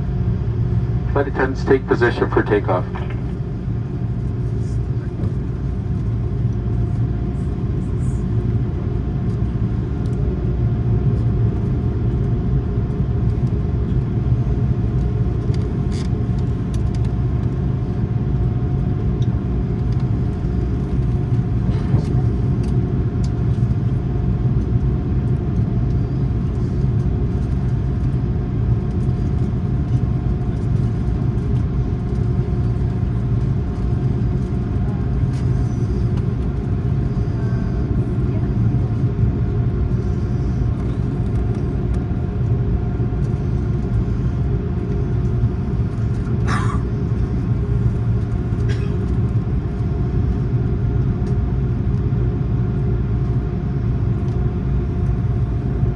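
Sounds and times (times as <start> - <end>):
airplane cabin engine rumble: 0.0 - 55.9.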